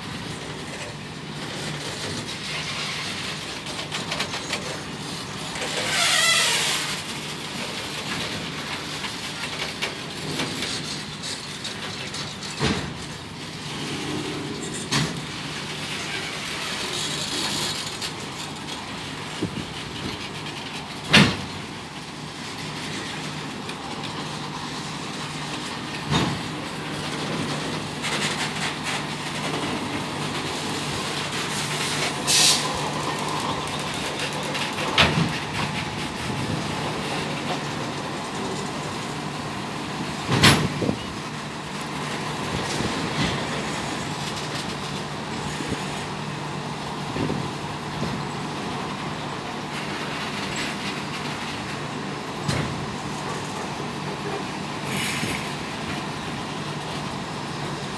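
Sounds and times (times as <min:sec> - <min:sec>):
freight train wagons rumbling past: 0:00.0 - 0:57.9
wheels and couplings clanking: 0:00.0 - 0:57.9.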